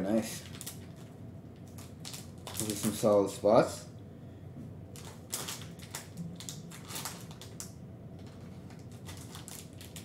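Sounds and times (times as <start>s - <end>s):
plastic wrapper crinkling: 0.1s - 3.2s, 4.9s - 10.0s.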